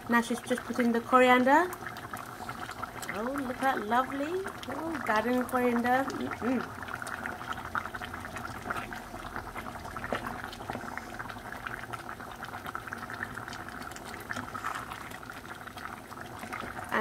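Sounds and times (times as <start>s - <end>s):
pot of food bubbling: 0.0s - 17.0s.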